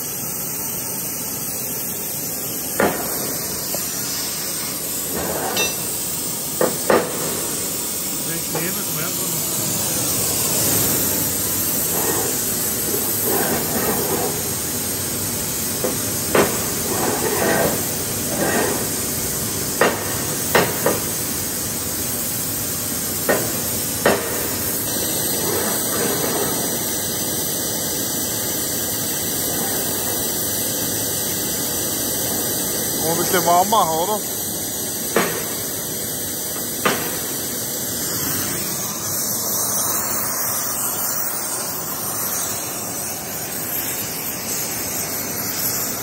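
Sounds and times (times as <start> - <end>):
gas torch hissing: 0.0 - 46.0.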